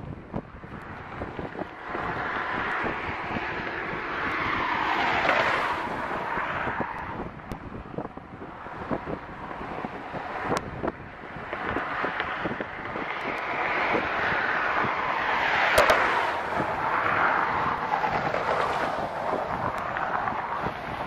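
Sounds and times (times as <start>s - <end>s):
train rushing noise: 0.9s - 7.1s, 8.5s - 21.0s.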